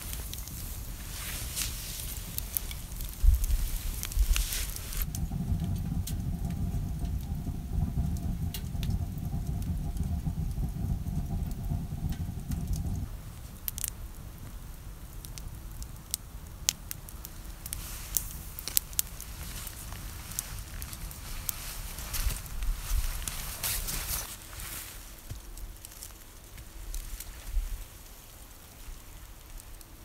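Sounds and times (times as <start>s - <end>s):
steady low rumble: 0.0s - 29.6s
campfire crackling and popping: 0.0s - 30.0s.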